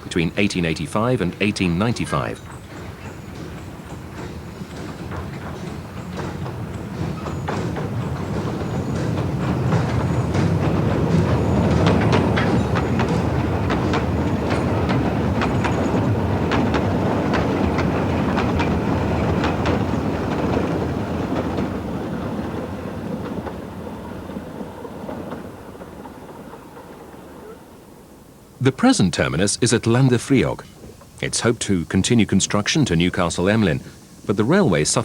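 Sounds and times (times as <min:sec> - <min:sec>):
train wheels clicking over rail joints: 0:00.0 - 0:35.0.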